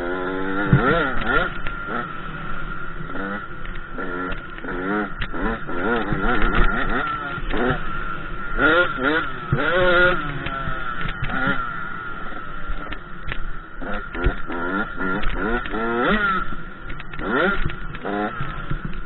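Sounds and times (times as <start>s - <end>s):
two-stroke motocross engine revving: 0.0s - 19.0s.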